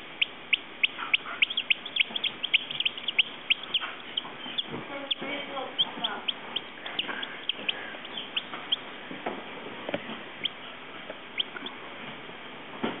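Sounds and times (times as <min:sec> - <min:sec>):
chicks peeping: 0:00.0 - 0:12.2.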